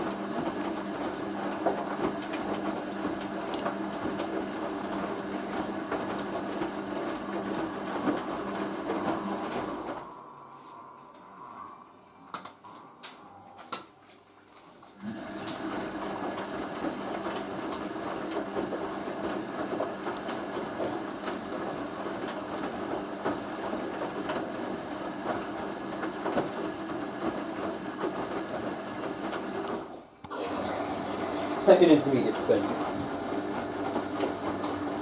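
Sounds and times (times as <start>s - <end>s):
washing machine hum and rattle: 0.0s - 11.0s, 13.5s - 35.0s.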